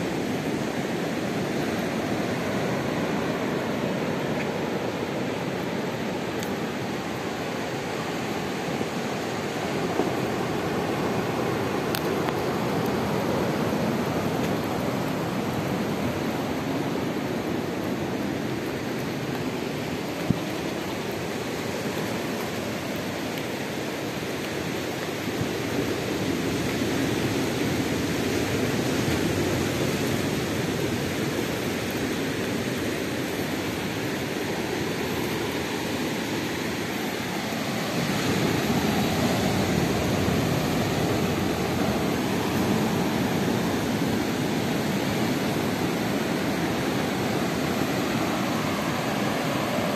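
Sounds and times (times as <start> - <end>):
surf washing onto beach: 0.0 - 49.9.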